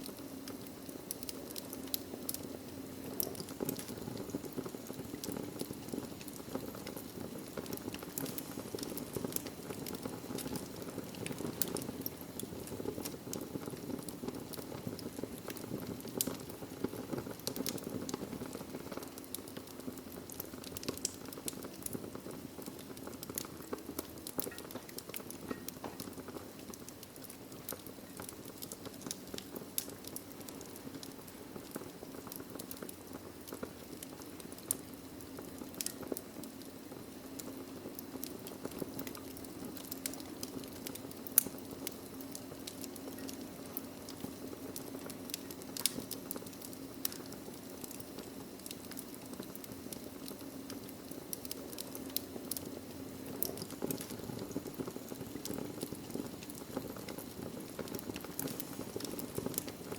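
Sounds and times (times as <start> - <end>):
wood crackling and popping: 0.0 - 59.9
fireplace flame rushing: 0.1 - 36.6, 37.2 - 59.9.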